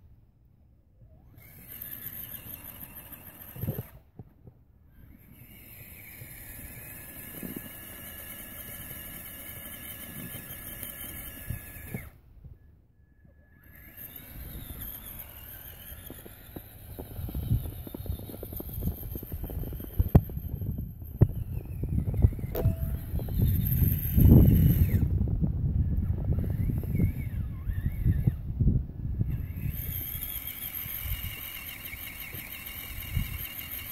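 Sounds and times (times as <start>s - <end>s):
rc truck motor whining: 1.0s - 33.9s.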